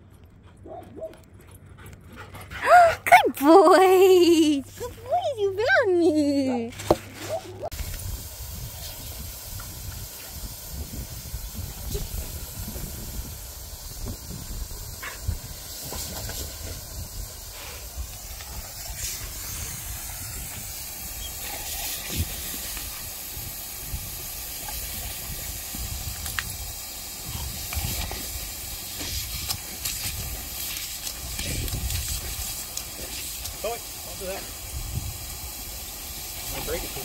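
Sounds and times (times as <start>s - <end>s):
lawn sprinkler hissing: 3.5s - 6.6s, 7.7s - 37.0s.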